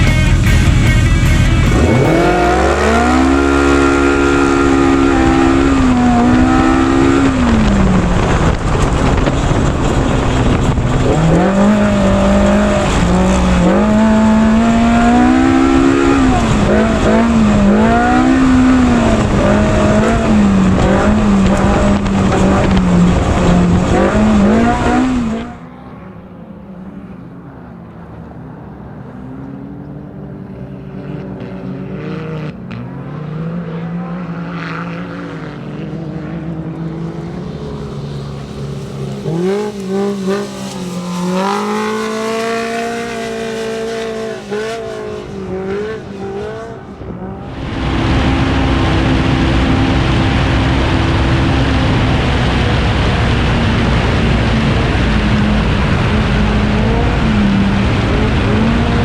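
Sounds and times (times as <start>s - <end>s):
engine revving hard: 0.0s - 9.2s, 9.8s - 25.9s, 33.4s - 59.0s.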